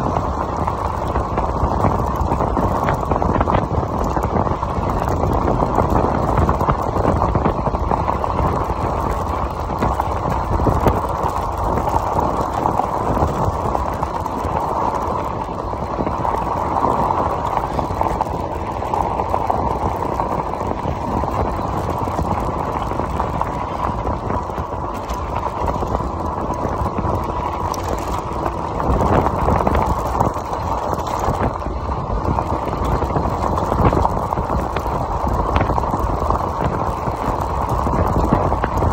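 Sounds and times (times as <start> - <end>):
tires crunching on gravel: 0.0 - 38.9
wind on microphone: 0.0 - 38.9.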